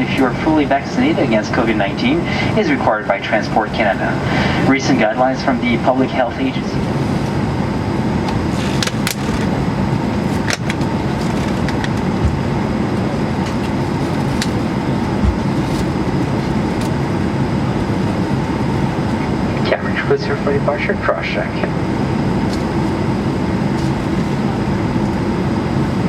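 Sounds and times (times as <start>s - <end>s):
airliner cabin noise: 0.0s - 26.0s.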